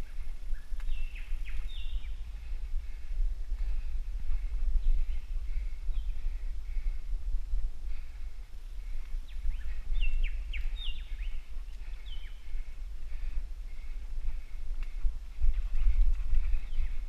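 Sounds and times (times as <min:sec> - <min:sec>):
birds calling: 0:00.0 - 0:07.1, 0:07.9 - 0:17.0
wind on microphone: 0:00.0 - 0:17.0.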